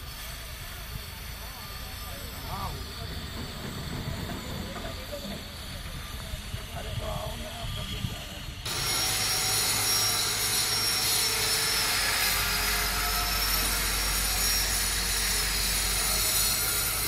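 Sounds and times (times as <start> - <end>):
construction machine noise: 0.0 - 17.0.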